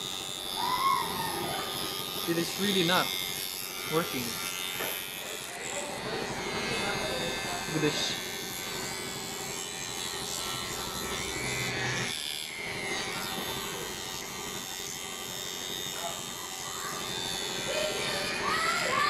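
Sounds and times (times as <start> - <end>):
electric hair clipper buzzing: 0.0 - 19.0.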